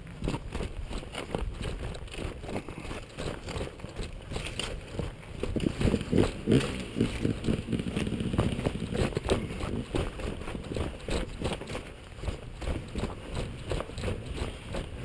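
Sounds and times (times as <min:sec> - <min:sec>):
dirt bike engine: 0:00.0 - 0:15.0
knocks and rattles over rocks: 0:00.0 - 0:15.0.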